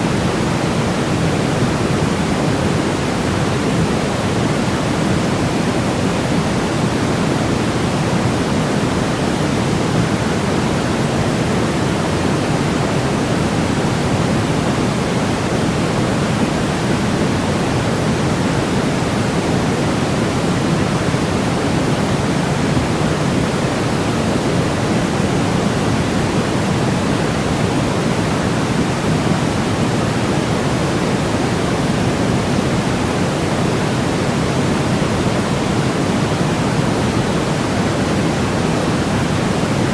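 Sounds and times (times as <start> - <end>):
steady deep white noise: 0.0 - 39.9.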